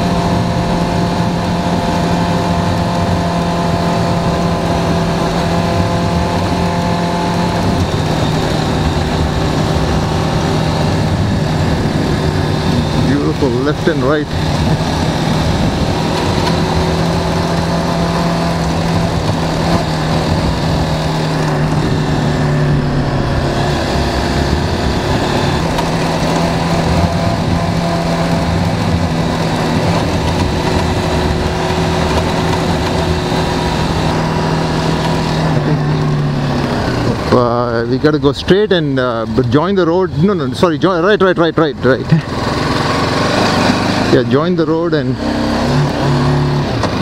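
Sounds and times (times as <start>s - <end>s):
wind noise: 0.0s - 41.0s
motorcycle engine cruising: 0.0s - 47.0s.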